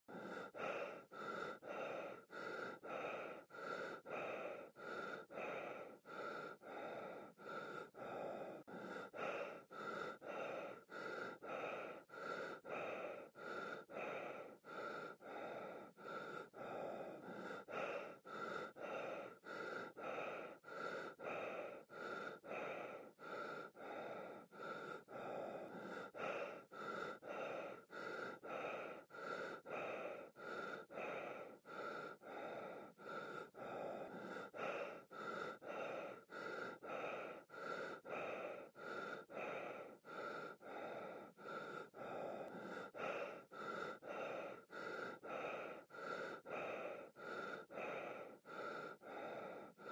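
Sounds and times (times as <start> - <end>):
fast breathing through gas mask: 0.0 - 49.9.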